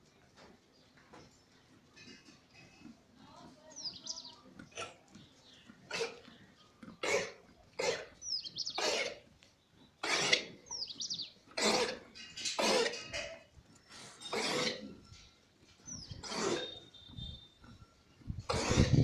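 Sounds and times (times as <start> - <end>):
goats giving hoarse calls: 1.6 - 15.2, 15.8 - 19.0.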